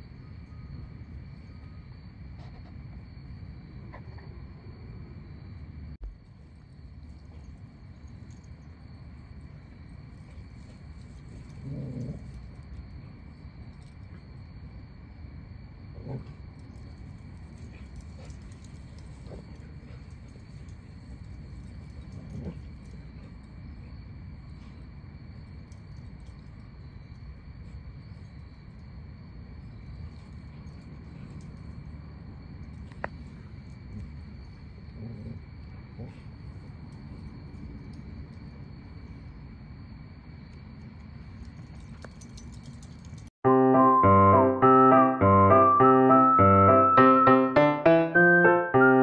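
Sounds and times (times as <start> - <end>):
faint insect chirring: 0.0 - 43.3.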